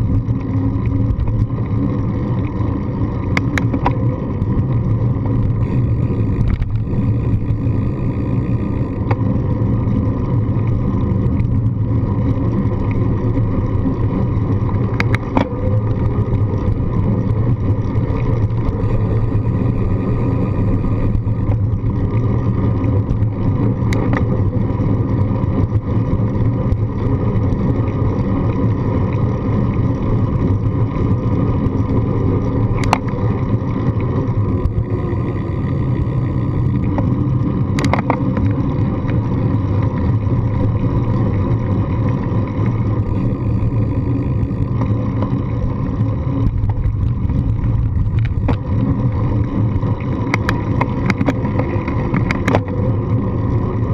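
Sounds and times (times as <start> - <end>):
wind and road rumble: 0.0 - 53.9.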